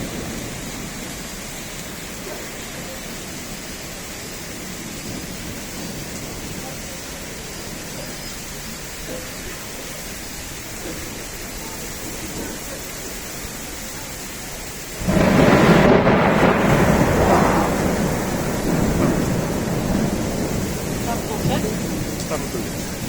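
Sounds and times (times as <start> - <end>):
steady rain: 0.0 - 23.0
thunder clap rumbling: 0.0 - 23.0.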